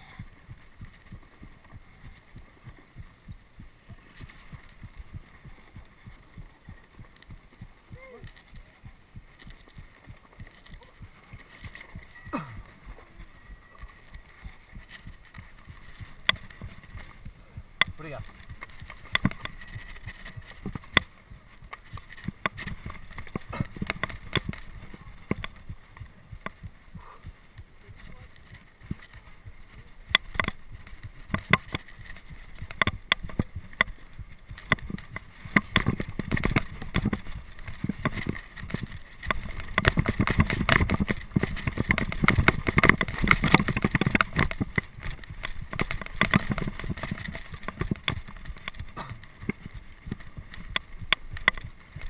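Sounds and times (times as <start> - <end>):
mountain bike rattling over rocks: 0.0 - 52.0.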